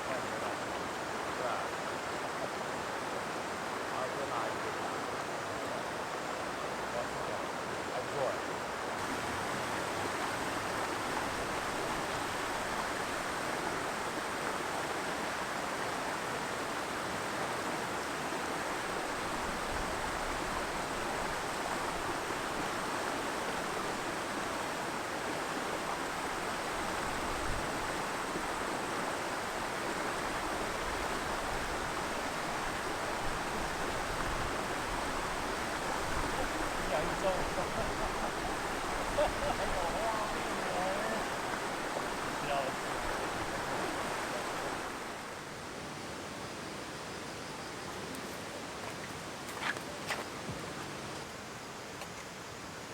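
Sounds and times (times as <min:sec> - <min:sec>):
stream rushing over rocks: 0:00.0 - 0:46.7.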